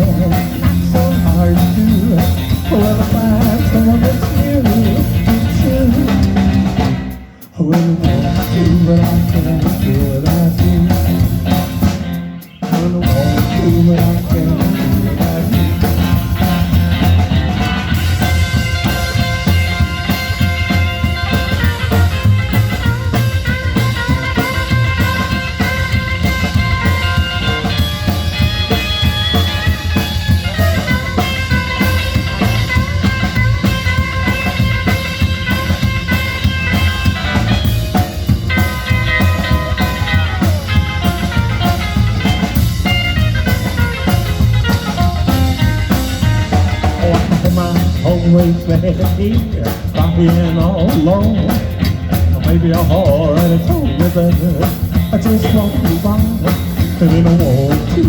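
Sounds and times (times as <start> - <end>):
lead guitar bent notes: 0.0 - 7.4, 8.0 - 58.0
bass guitar: 0.0 - 58.0
drum kit: 0.0 - 58.0.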